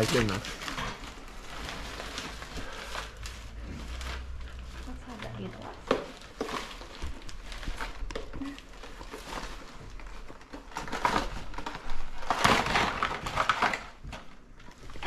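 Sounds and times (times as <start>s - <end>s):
gift wrapping crinkling and tearing: 0.0s - 15.0s.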